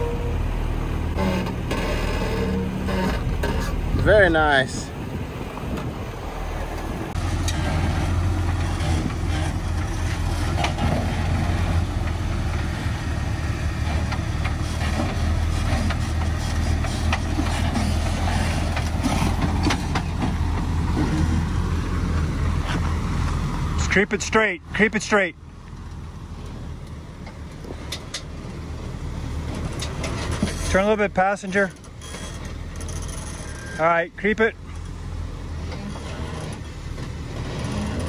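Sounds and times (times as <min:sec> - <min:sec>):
car engine running low: 0:00.0 - 0:38.0.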